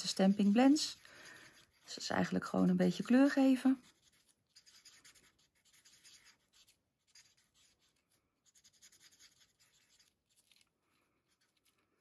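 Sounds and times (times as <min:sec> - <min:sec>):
marker tip scratching paper: 0:00.0 - 0:10.6, 0:11.2 - 0:11.8.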